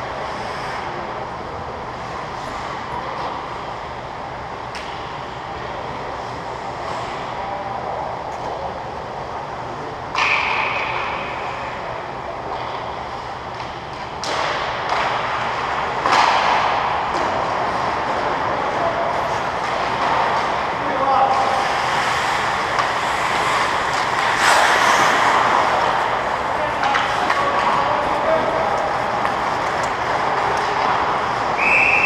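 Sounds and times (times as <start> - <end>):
hiss of arena noise: 0.0 - 14.1, 15.4 - 32.0.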